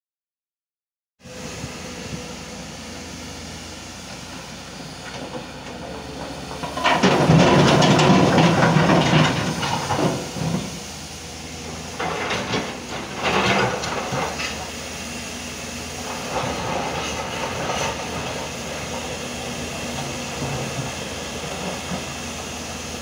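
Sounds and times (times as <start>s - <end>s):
diesel engine running: 1.2s - 23.0s.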